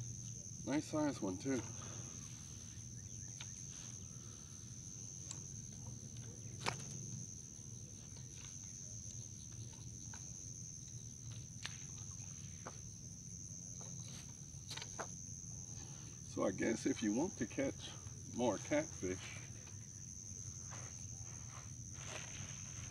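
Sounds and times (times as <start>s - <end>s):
insects chirping: 0.0s - 22.9s.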